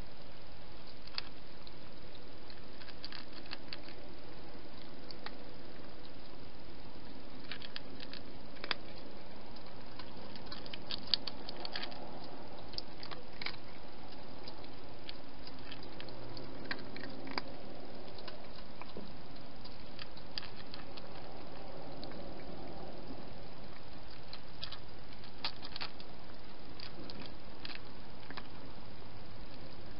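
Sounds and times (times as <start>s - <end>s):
steady background hiss: 0.0s - 29.9s
cat crunching food: 0.1s - 29.9s.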